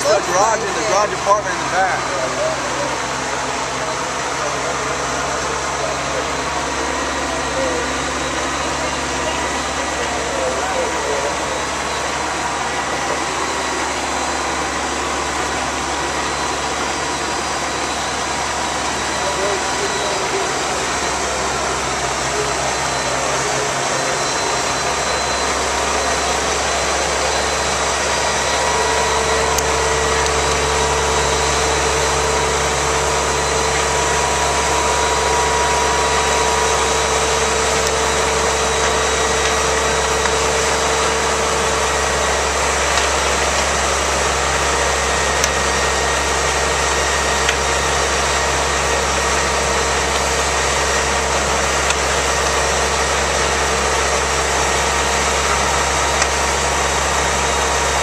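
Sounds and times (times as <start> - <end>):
fire engine idling: 0.0 - 58.0
steady whine: 0.0 - 58.0.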